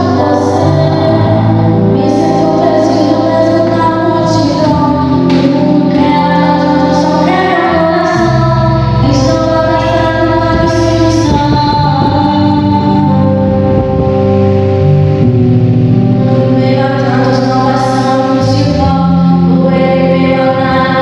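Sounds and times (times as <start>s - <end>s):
women singing sustained notes: 0.0s - 14.8s, 15.9s - 21.0s
instrumental backing: 0.0s - 21.0s.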